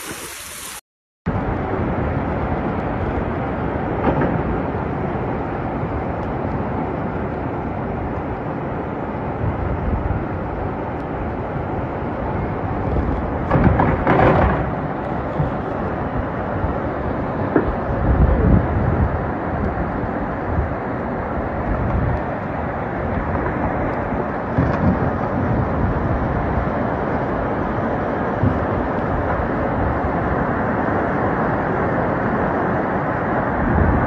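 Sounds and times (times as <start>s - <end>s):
flood torrent rushing: 0.0s - 34.0s.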